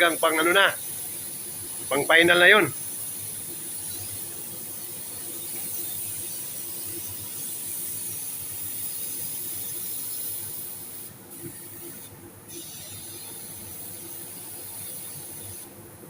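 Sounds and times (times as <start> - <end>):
paint spray gun hissing: 0.0 - 15.8.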